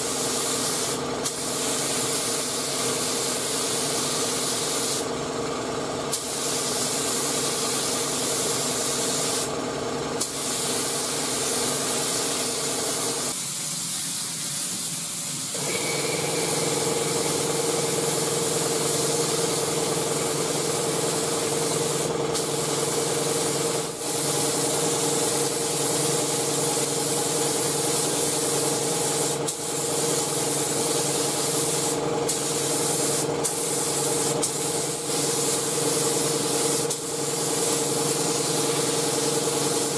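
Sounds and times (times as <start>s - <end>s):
paint spray gun hissing: 0.0s - 5.1s, 6.1s - 9.6s, 10.2s - 39.9s.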